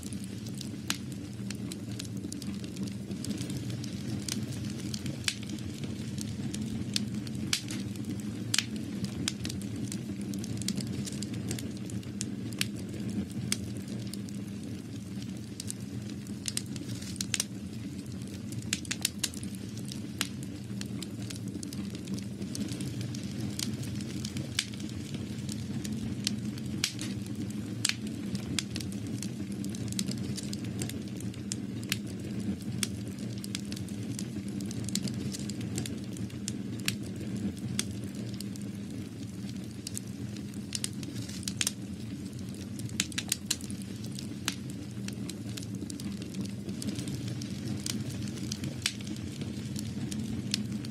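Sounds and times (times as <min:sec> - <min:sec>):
sharp crackles and clicks: 0:00.0 - 0:50.9.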